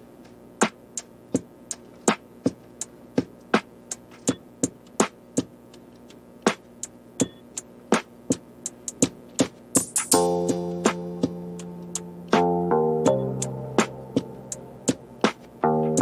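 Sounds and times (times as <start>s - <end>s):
sparse percussion beat: 0.6s - 16.0s.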